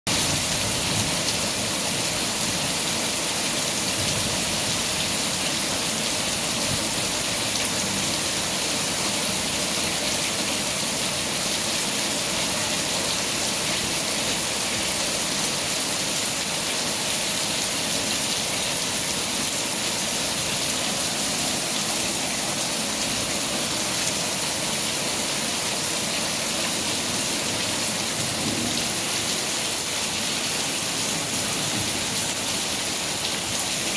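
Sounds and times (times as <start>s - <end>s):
rain falling steadily: 0.1s - 33.9s.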